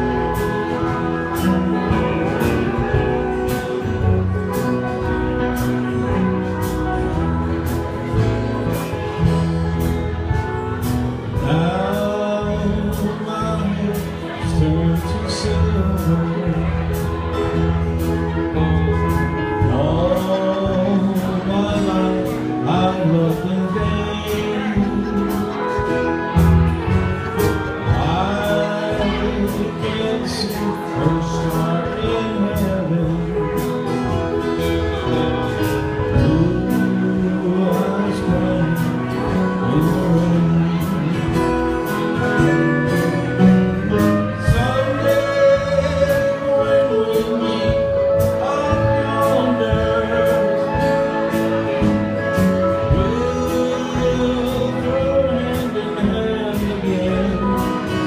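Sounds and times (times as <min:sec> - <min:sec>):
country band playing slow ballad: 0:00.0 - 0:58.0.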